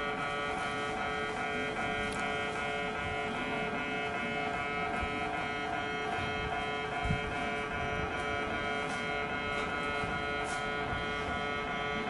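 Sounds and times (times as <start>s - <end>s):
level crossing warning buzzer: 0.0s - 12.0s.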